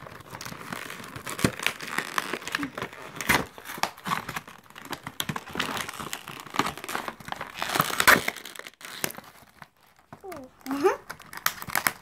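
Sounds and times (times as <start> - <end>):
blister packaging being torn: 0.0 - 12.0.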